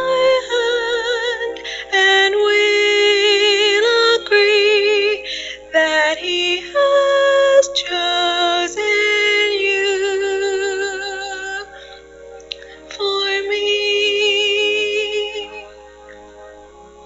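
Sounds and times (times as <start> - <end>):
woman singing with vibrato: 0.0 - 12.0, 12.7 - 15.8.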